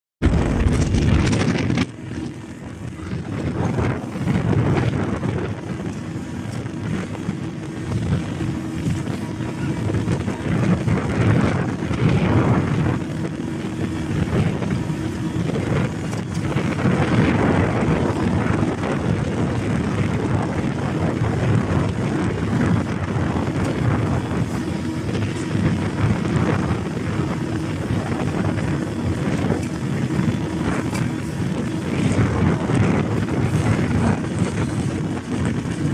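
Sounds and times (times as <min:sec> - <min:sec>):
motorboat engine droning: 0:00.2 - 0:35.9
wind buffeting microphone: 0:00.2 - 0:35.9.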